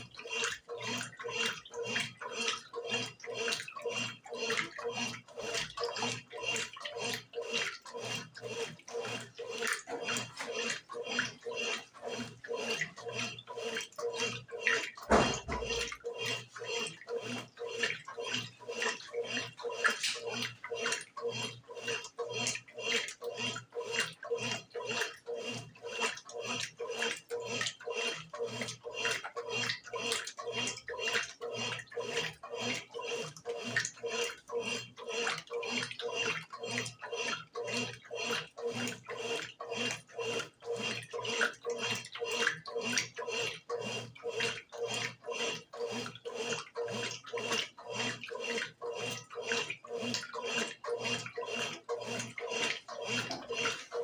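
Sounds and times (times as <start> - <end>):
steady motor hum: 0.0 - 54.0
water sloshing in washing machine: 0.0 - 54.0.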